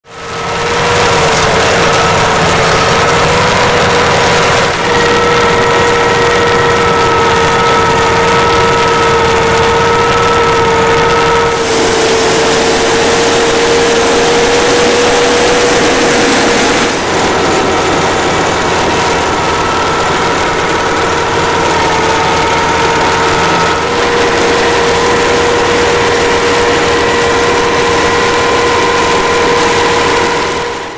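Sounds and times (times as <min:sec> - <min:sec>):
steady whine: 0:00.0 - 0:30.9
tractor engine running: 0:00.0 - 0:30.9.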